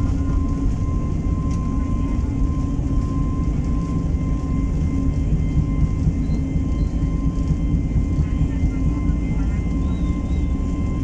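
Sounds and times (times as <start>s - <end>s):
jet engines rumbling: 0.0s - 11.0s
thin engine whine: 0.0s - 11.0s.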